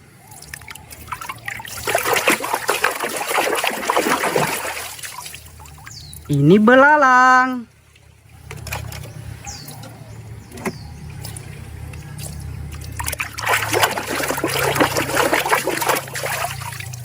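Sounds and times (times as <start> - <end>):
steady low hum: 0.0 - 17.0
water splashing and trickling: 0.0 - 17.0.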